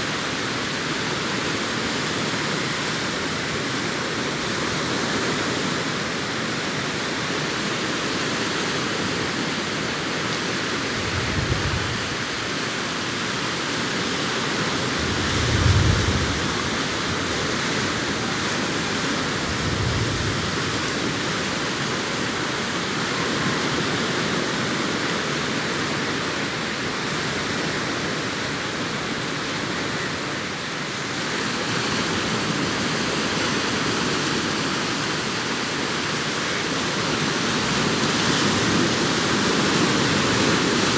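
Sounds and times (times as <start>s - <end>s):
surf washing onto beach: 0.0s - 40.9s.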